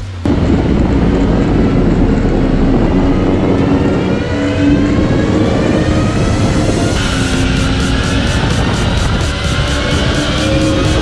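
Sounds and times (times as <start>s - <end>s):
jet boat engine running: 0.0s - 11.0s.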